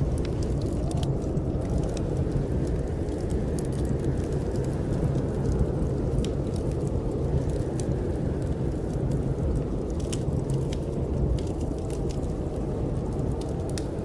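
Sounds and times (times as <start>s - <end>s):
snowstorm wind rumbling: 0.0s - 14.0s
wood fire crackling: 0.0s - 14.0s.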